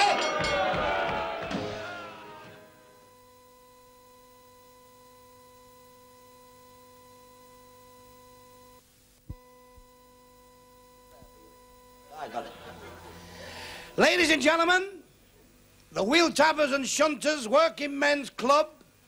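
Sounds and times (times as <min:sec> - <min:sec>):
low electrical hum: 0:01.9 - 0:19.0.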